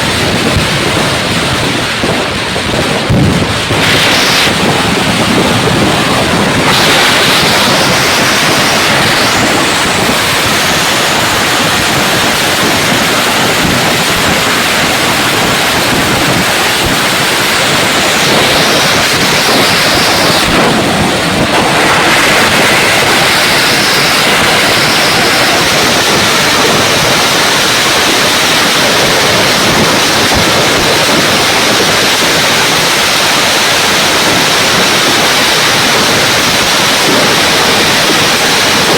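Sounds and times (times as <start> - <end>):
fireworks crackling and popping: 0.0 - 38.9
fireworks sharp bangs: 0.0 - 38.9.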